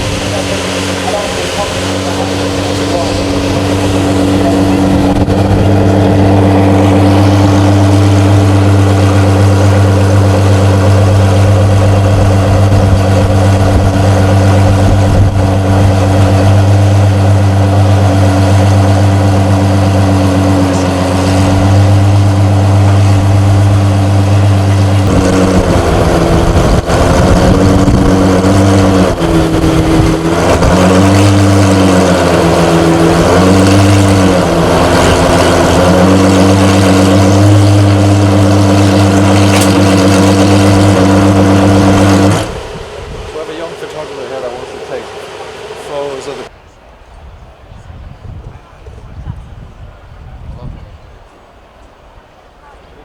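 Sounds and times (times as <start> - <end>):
car engine idling and revving: 0.0 - 46.8.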